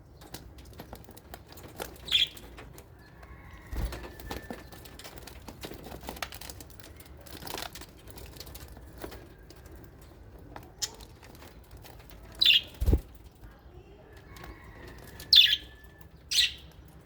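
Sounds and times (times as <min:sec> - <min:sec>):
birds scratching and rustling: 0:00.0 - 0:17.0.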